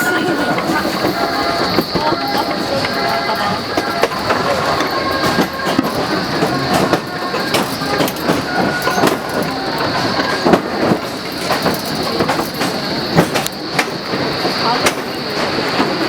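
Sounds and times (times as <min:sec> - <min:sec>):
railway car rattling and clacking: 0:00.0 - 0:16.0.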